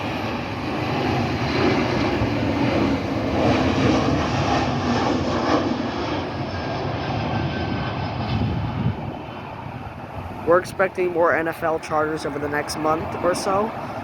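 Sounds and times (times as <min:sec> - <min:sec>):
jet engines with whining tones: 0:00.0 - 0:14.0.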